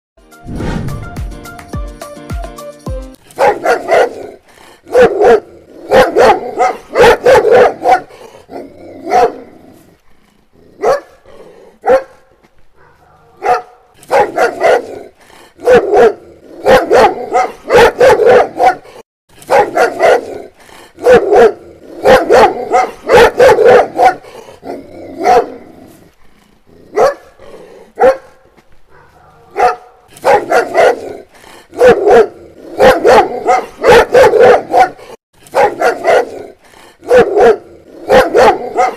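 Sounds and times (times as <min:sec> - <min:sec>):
dog barking: 0:03.3 - 0:09.8, 0:10.8 - 0:25.9, 0:26.9 - 0:38.9.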